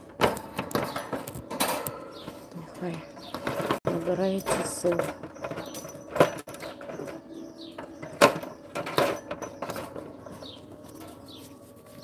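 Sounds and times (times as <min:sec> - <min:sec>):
small bird chirping: 0:02.0 - 0:12.0.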